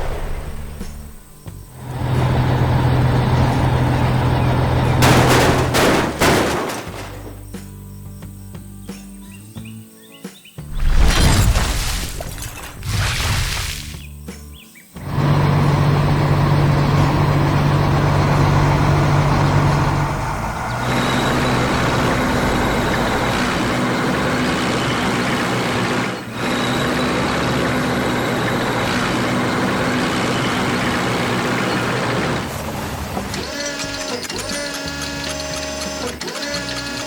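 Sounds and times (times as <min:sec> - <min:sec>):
heavy vehicle engine humming: 0:00.0 - 0:08.0, 0:15.0 - 0:37.0.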